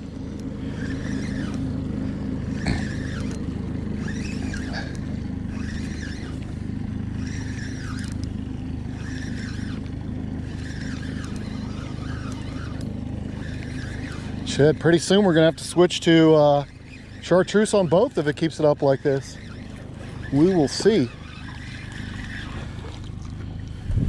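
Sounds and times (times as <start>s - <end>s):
fishing reel whirring: 0.0s - 24.0s
outboard motor humming: 0.0s - 24.0s.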